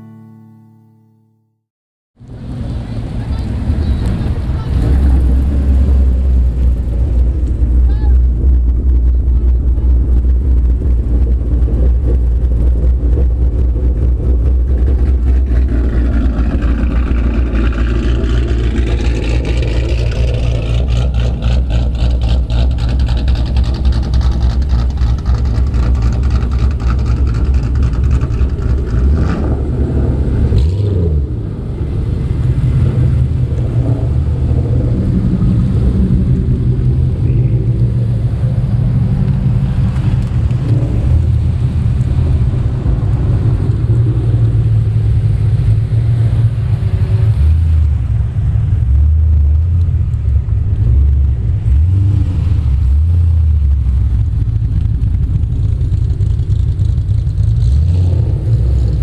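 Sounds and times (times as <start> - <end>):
car engines rumbling: 2.2 - 59.0.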